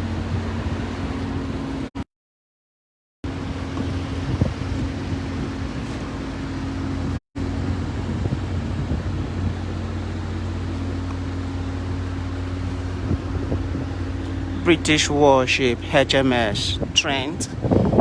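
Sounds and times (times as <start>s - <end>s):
mechanical hum with low drone: 0.0s - 2.0s, 3.2s - 18.0s.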